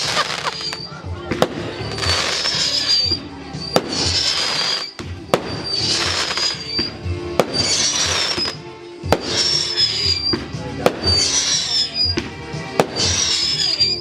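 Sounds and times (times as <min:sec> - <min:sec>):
firework bangs: 0:00.0 - 0:14.0
firework crackle and hiss: 0:00.0 - 0:14.0
music with a steady beat: 0:00.0 - 0:14.0.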